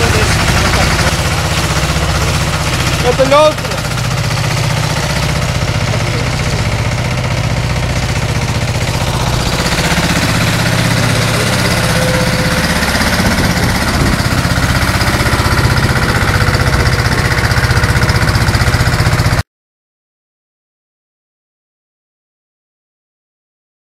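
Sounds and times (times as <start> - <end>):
tractor engine chugging: 0.0 - 19.4.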